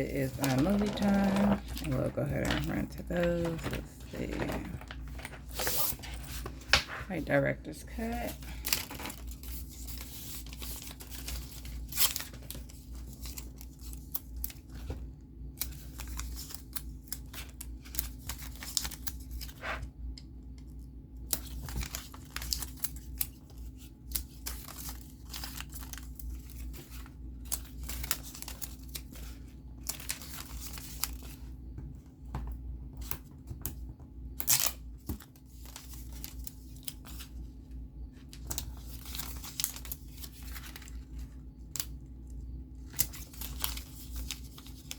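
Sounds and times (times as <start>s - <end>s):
paper and plastic crinkling: 0.0s - 19.7s, 21.2s - 33.8s, 34.4s - 44.9s
faint steady hum: 0.0s - 44.9s.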